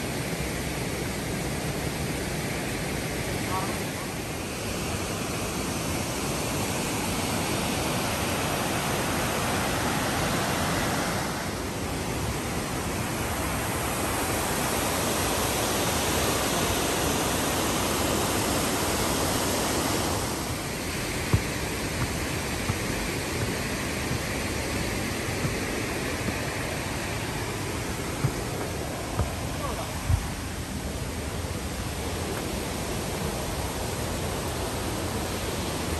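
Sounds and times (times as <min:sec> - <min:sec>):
waterfall rushing: 0:01.2 - 0:35.9.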